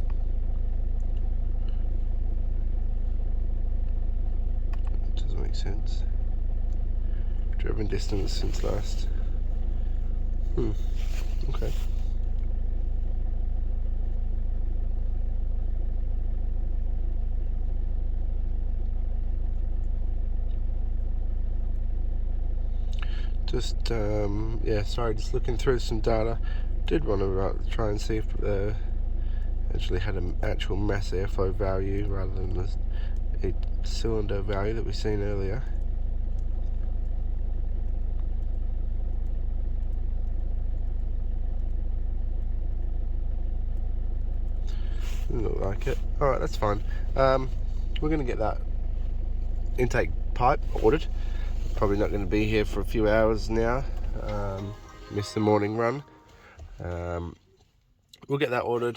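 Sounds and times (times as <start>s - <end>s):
diesel engine idling: 0.0s - 57.3s.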